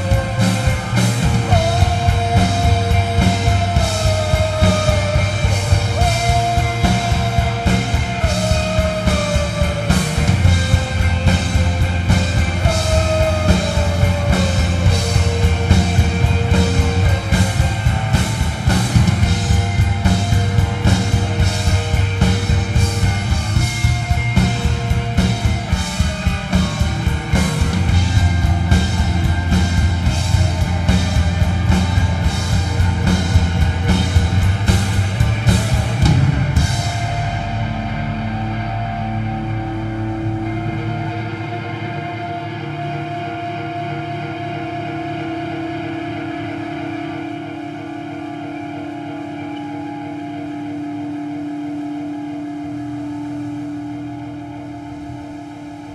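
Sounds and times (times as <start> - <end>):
drum kit and cymbals: 0.0 - 49.4
rock band playing loud: 0.0 - 55.9.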